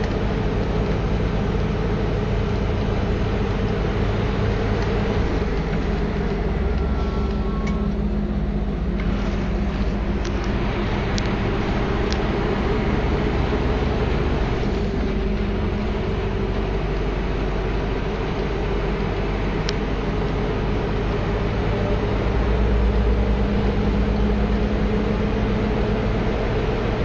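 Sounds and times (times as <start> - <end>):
road and wind noise: 0.0 - 27.0
truck engine droning: 0.0 - 27.0.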